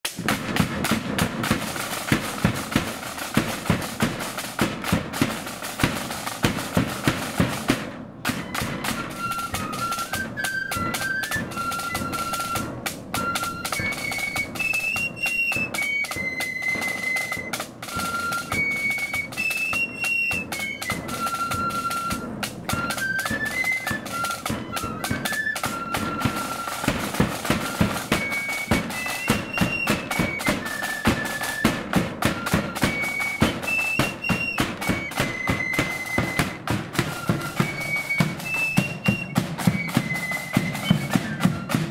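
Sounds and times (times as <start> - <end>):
side drums beating march: 0.0 - 41.9
flutes playing melody: 0.1 - 41.9.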